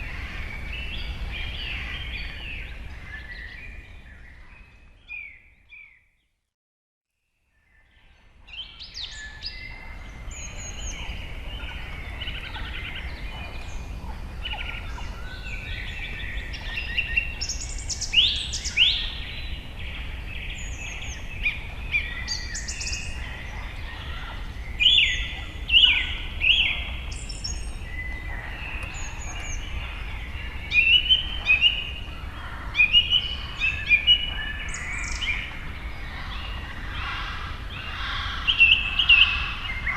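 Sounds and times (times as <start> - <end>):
birds chirping and singing: 0.0 - 6.2, 7.6 - 39.9.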